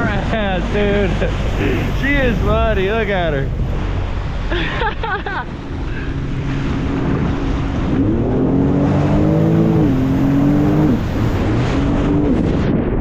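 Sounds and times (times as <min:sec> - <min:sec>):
jet ski engine revving: 0:00.0 - 0:12.7
rush of wind and water: 0:00.0 - 0:13.0.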